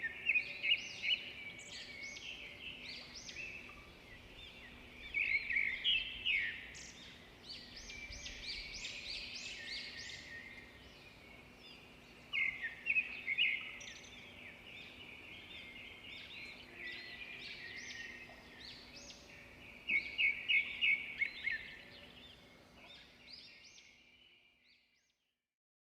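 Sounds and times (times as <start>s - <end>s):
songbirds singing: 0.0s - 25.3s.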